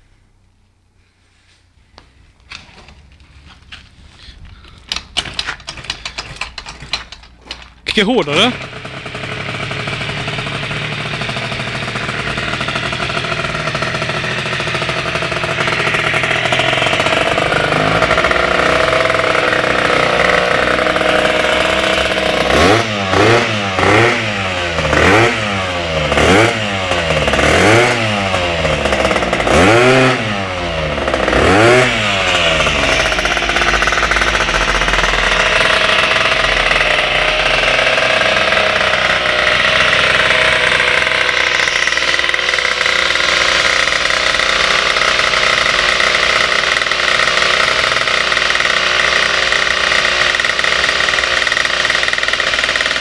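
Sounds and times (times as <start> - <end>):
two-stroke scooter engine revving: 3.6 - 53.0.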